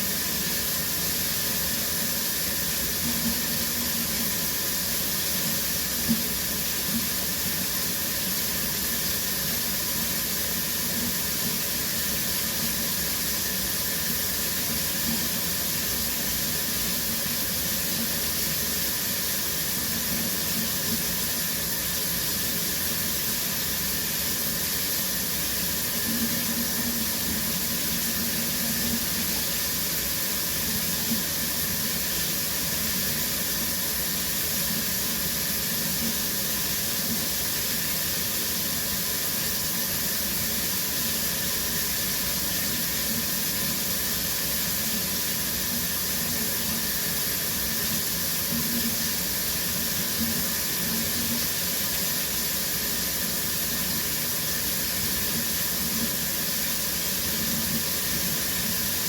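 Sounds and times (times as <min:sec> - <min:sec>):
shower water spray hissing: 0:00.0 - 0:59.0.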